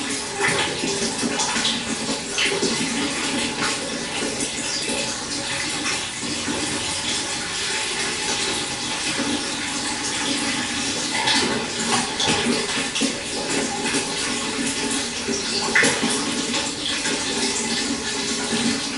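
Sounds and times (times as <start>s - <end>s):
stream water burbling: 0.0s - 18.9s.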